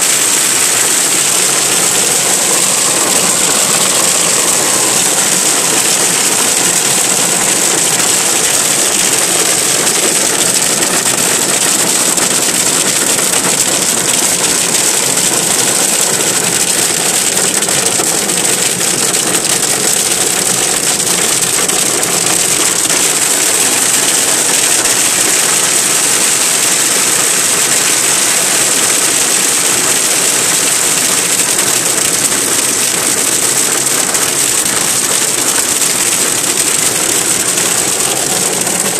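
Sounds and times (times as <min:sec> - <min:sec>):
hail and rain on car roof: 0:00.0 - 0:38.9.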